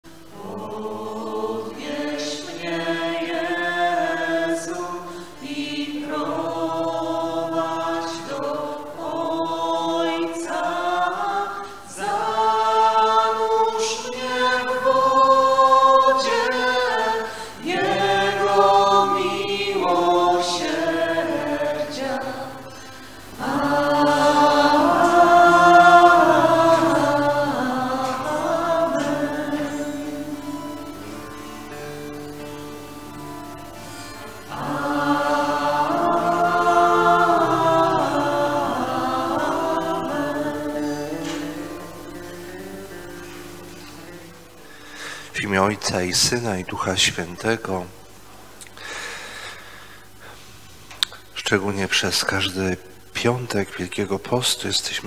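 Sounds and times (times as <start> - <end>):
choir singing a slow hymn: 0.0 - 48.3, 51.4 - 55.0.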